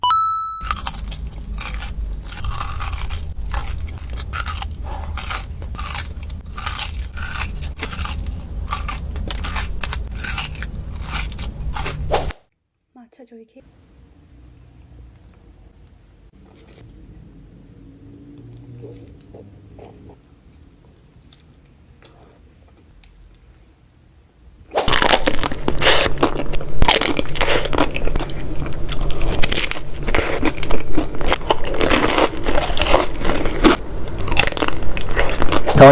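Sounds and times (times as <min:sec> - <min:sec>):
person chewing crunchy food: 0:00.6 - 0:12.3, 0:16.3 - 0:23.8, 0:24.9 - 0:35.9.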